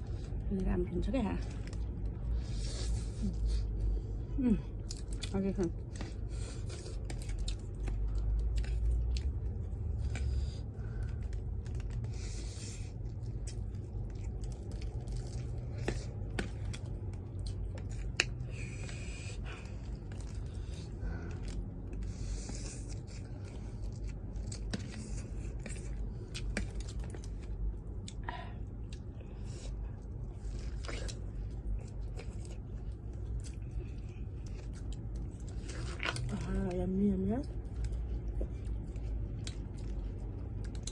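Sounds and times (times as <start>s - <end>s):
low rumble: 0.0s - 40.9s
person chewing: 4.7s - 36.4s, 37.5s - 40.9s.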